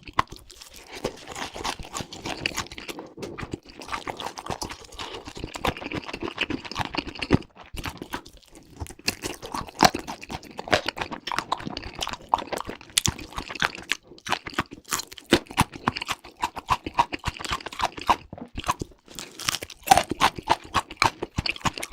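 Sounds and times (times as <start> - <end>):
person chewing crunchy food: 0.0 - 21.9.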